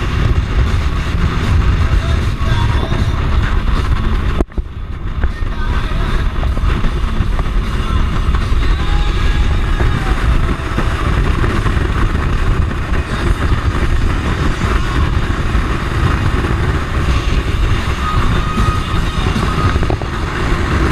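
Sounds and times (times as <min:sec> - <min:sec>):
boat engine drone: 0:00.0 - 0:20.9
wind: 0:00.0 - 0:20.9.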